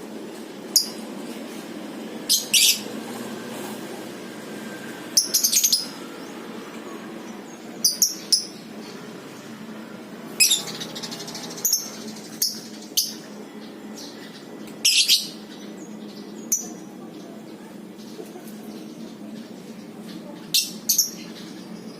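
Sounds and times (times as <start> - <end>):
steady low hum: 0.0 - 21.9
lovebirds shrill calls: 0.7 - 1.1, 2.2 - 3.6, 4.5 - 9.6, 10.3 - 21.9.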